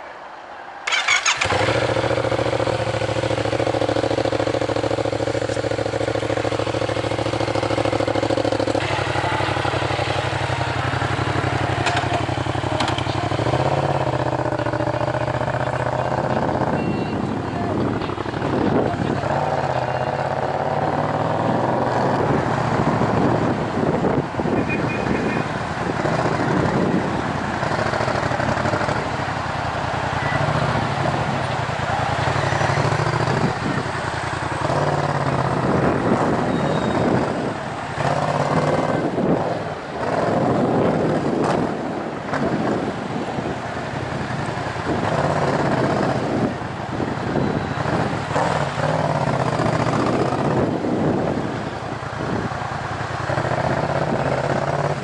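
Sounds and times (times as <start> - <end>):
loud motorcycle engine revving: 0.9 - 55.0.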